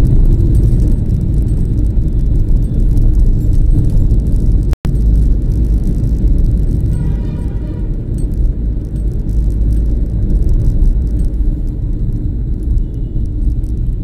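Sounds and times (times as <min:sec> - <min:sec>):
engine and tyre rumble in car: 0:00.0 - 0:14.0.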